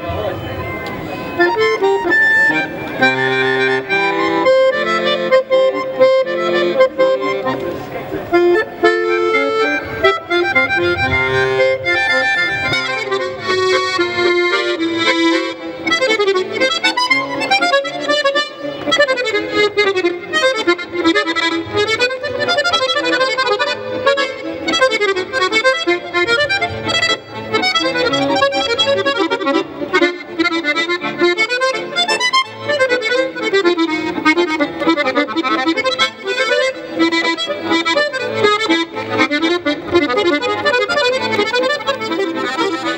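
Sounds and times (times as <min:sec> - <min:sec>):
solo accordion playing: 0:00.0 - 0:42.9.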